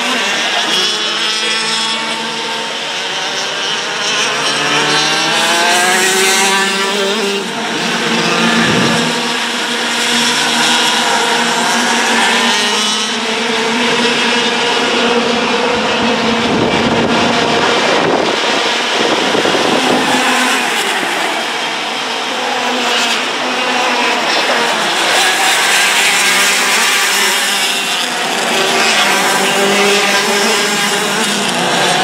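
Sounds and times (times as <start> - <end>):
racing kart engines passing: 0.0 - 32.0.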